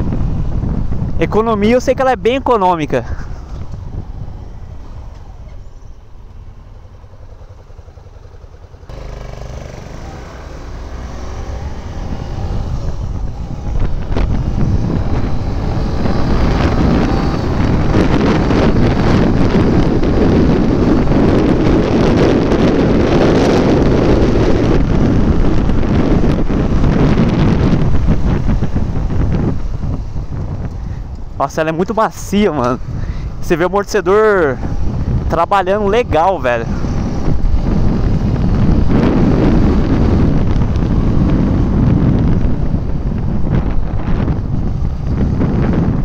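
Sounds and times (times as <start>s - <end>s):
wind rushing over microphone: 0.0s - 46.0s
motorcycle engine running: 3.2s - 46.0s.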